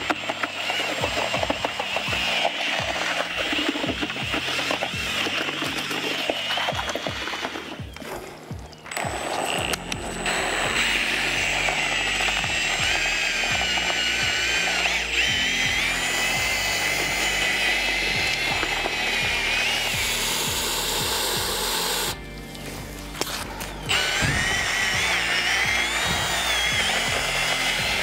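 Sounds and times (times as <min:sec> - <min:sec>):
background music: 0:00.0 - 0:28.0
power drill motor whining: 0:00.0 - 0:28.0.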